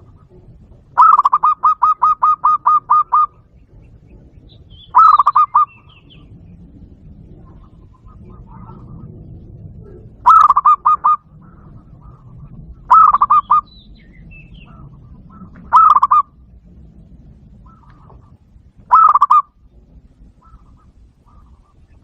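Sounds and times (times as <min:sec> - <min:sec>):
dove cooing from speaker: 0:00.0 - 0:22.0
faint bird notes: 0:00.0 - 0:22.0.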